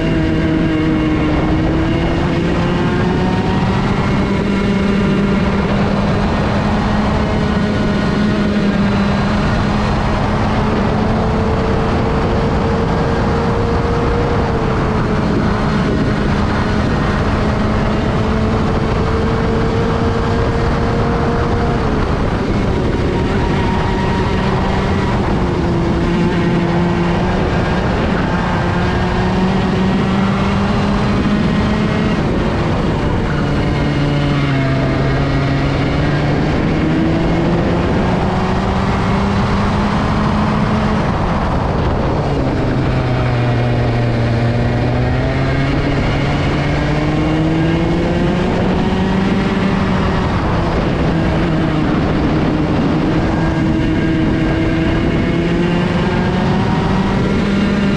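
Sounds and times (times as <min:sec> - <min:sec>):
racing kart engine revving: 0:00.0 - 0:57.9.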